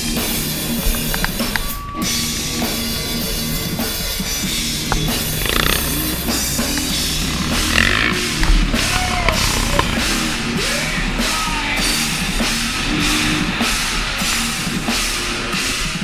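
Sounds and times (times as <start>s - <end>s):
rock music with drums: 0.0s - 16.0s.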